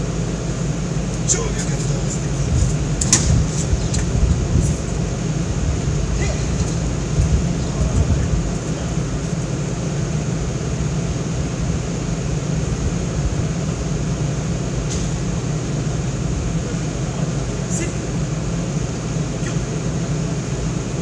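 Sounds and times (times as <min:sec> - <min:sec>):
city street rumble: 0:00.0 - 0:21.0.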